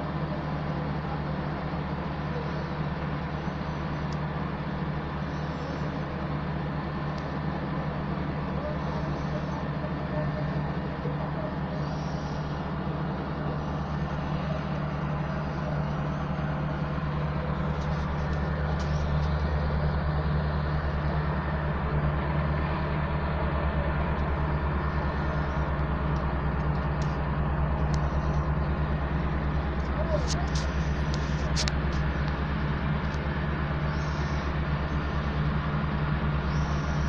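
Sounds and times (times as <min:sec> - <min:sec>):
diesel engine humming: 0:00.0 - 0:37.0.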